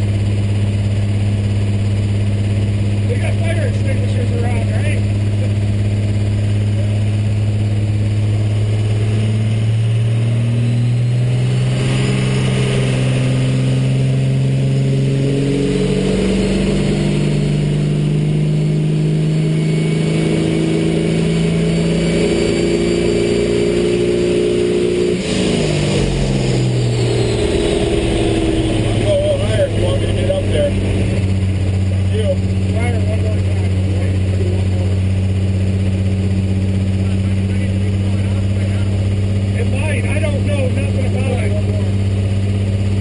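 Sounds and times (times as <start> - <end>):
diesel engine revving under load: 0.0 - 43.0.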